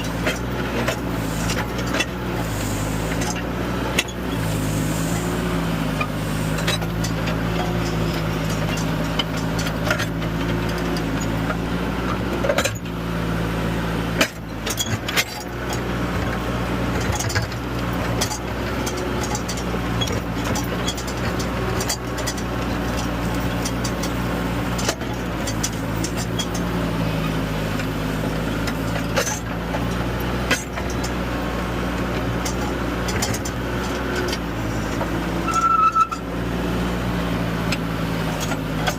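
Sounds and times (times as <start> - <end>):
loader diesel engine running: 0.0 - 38.9.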